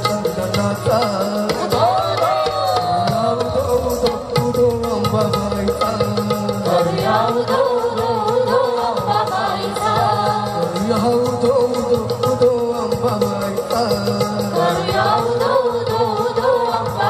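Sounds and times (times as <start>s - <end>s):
steady drumming: 0.0s - 17.0s.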